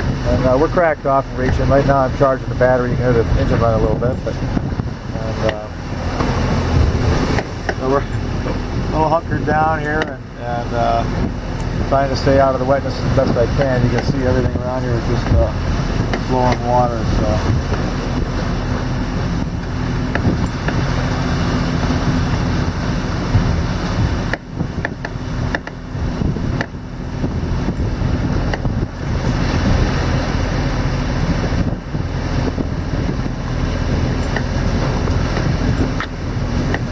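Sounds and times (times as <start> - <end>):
boat engine humming: 0.0 - 36.9
wind and water rushing: 0.0 - 36.9.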